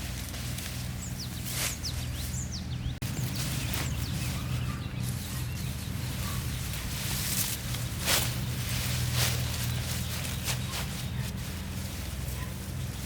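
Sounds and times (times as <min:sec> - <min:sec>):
rustle or scrape: 0:00.0 - 0:02.4, 0:03.1 - 0:13.0
rural background: 0:00.0 - 0:13.0
small birds chirping: 0:00.0 - 0:13.0.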